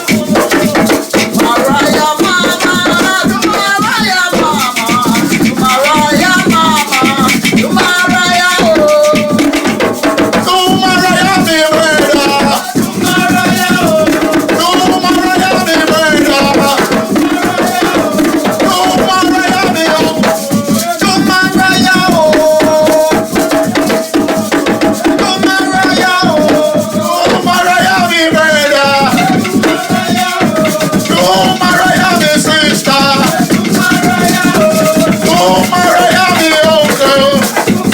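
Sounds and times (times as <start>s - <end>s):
hand drums and shakers rhythm: 0.0s - 37.9s
voices singing held notes: 0.0s - 37.9s.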